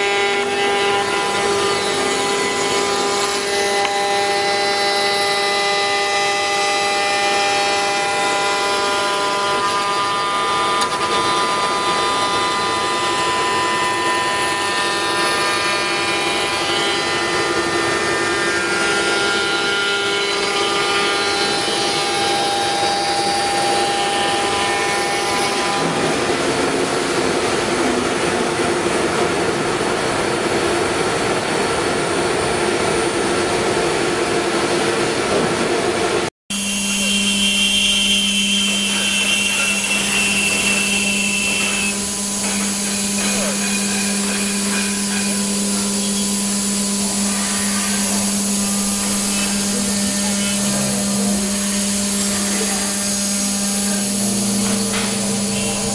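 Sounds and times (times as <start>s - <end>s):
hissing cutting noise: 0.0s - 30.0s, 36.5s - 55.9s
router spindle whining: 0.0s - 30.9s, 36.5s - 55.9s.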